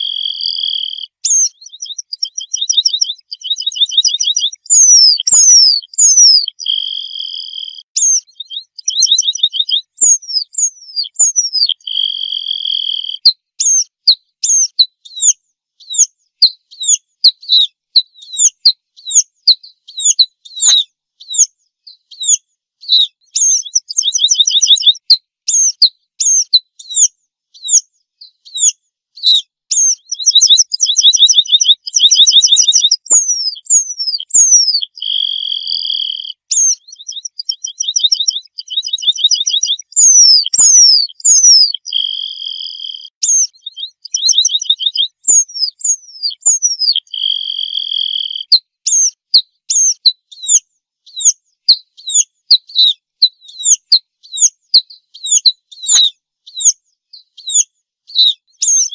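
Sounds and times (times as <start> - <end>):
bird calling with high trills: 0.0 - 15.3, 22.2 - 27.0, 28.5 - 58.9.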